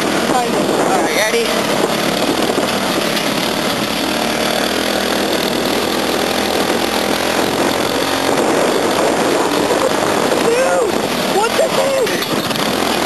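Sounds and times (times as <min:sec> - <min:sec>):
go-kart engine running: 0:00.0 - 0:13.0
wind rushing: 0:00.0 - 0:13.0
rattle: 0:01.3 - 0:13.0.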